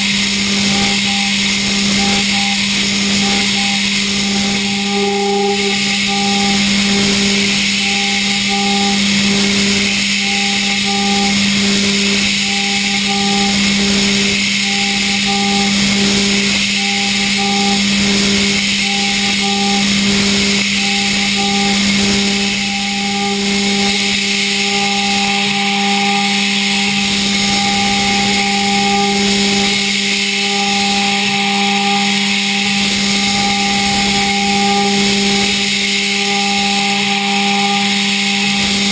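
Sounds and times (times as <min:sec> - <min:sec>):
higher machining tone: 0:00.0 - 0:38.9
milling machine cutting steel: 0:00.0 - 0:38.9.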